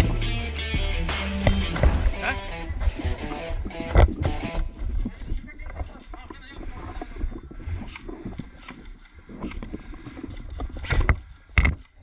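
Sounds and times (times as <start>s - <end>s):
footsteps: 0.7s - 12.0s.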